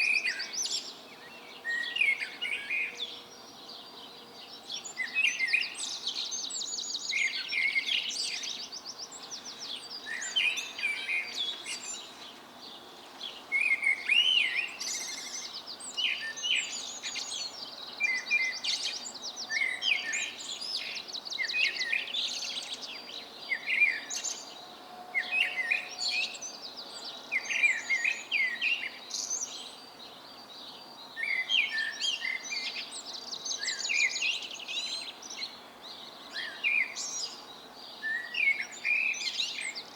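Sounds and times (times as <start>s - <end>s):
songbirds trilling and twittering: 0.0s - 39.9s.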